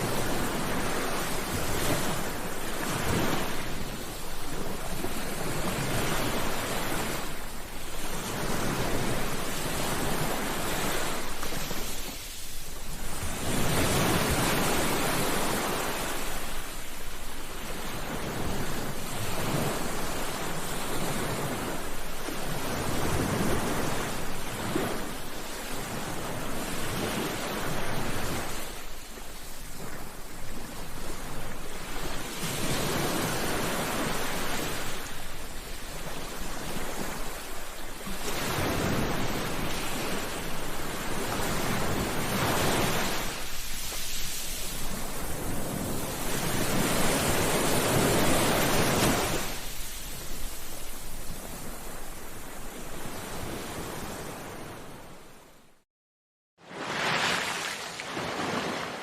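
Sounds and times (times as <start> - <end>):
sea waves breaking on shore: 0.0 - 55.7, 56.6 - 59.0.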